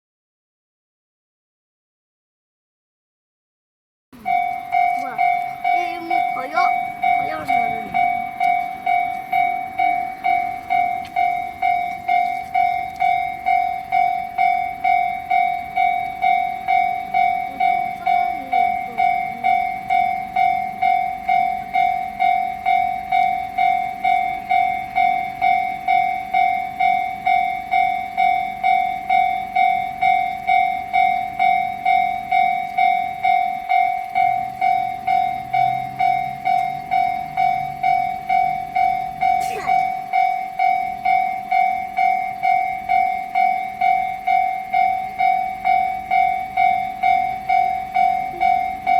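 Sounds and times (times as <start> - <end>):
level crossing warning bell: 4.2 - 48.9.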